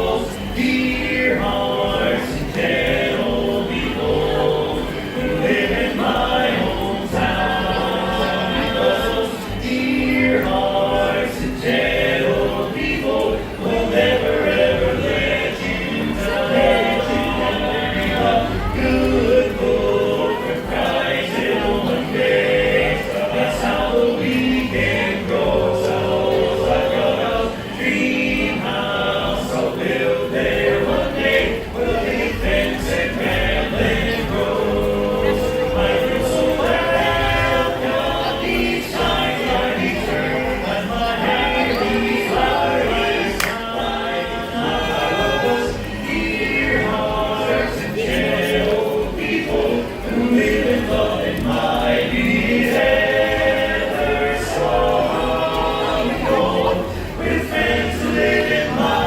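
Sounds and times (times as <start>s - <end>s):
quartet singing in close harmony: 0.0s - 59.0s.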